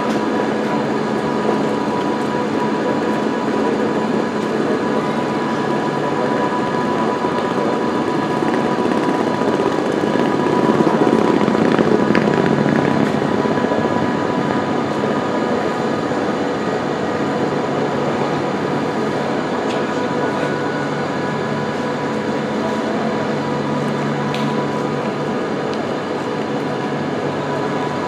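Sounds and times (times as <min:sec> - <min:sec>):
train running: 0:00.0 - 0:28.0.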